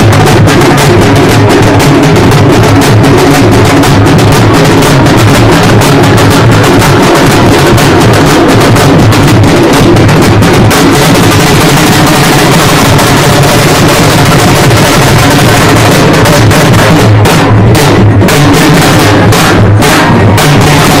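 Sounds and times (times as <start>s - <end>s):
frame drums beaten fast: 0.0s - 21.0s.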